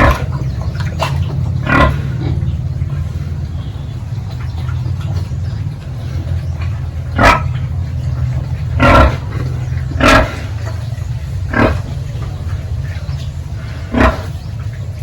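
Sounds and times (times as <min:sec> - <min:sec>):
pigs squealing: 0:00.0 - 0:14.6
steady low hum: 0:00.0 - 0:15.0.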